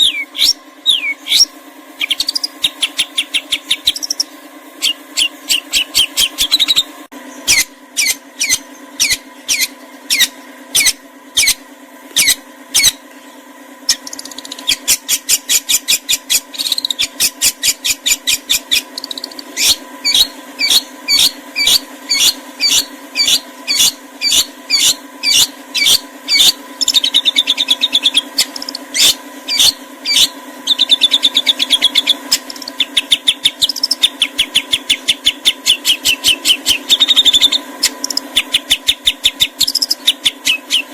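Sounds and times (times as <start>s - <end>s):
songbird calling with trills: 0.0s - 11.6s, 12.2s - 40.9s
steady low hum: 0.0s - 40.9s.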